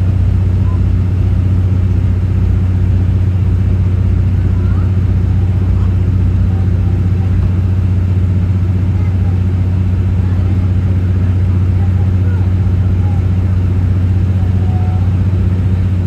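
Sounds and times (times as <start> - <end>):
train diesel engine drone: 0.0 - 16.0.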